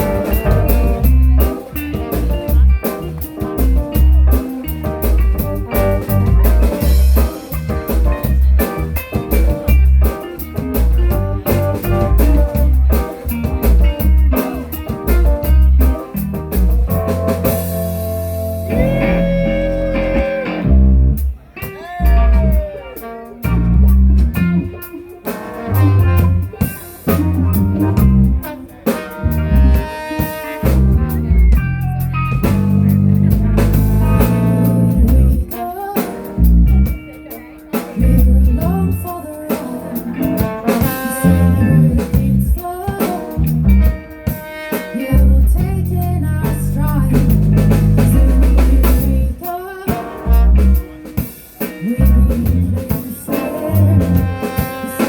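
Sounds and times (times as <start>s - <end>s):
bass guitar: 0.0s - 55.0s
drum kit: 0.0s - 55.0s
guitar: 0.0s - 55.0s.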